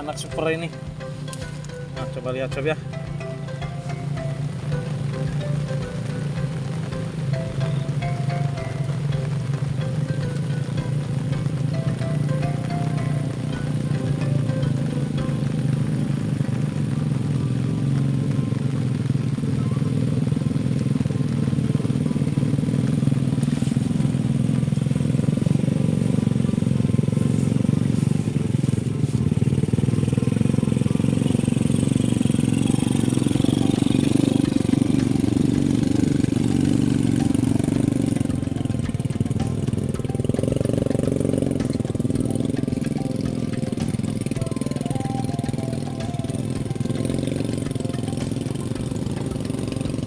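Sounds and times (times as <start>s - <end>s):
small motorcycle engines: 0.0s - 50.0s.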